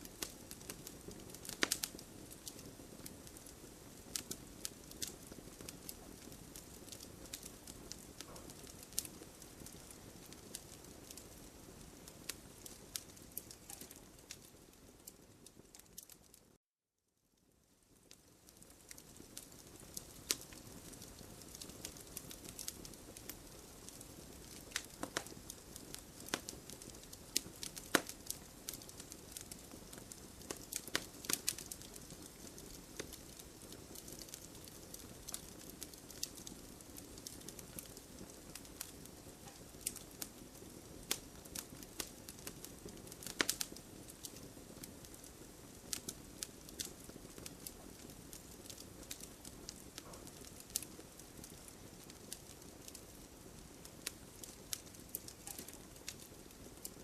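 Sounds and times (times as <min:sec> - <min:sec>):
campfire crackling and popping: 0:00.0 - 0:16.6, 0:17.7 - 0:57.0.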